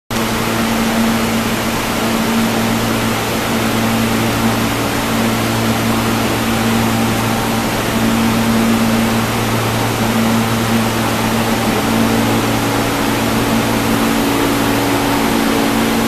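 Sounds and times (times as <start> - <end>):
subway car equipment hum: 0.1 - 16.0.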